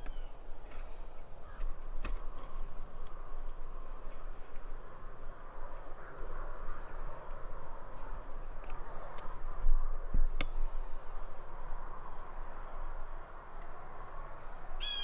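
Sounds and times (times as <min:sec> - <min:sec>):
distant birds calling: 0:00.0 - 0:15.0.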